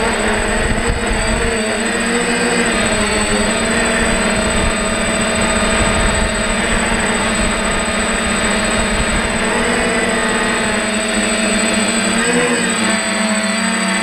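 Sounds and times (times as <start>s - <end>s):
drone motors and propellers humming: 0.0s - 14.0s.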